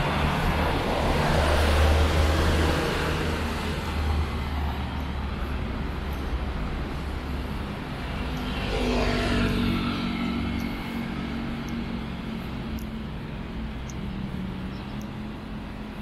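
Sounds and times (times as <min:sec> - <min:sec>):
vehicle passing close by: 0:00.0 - 0:15.5
city traffic hum: 0:00.0 - 0:16.0.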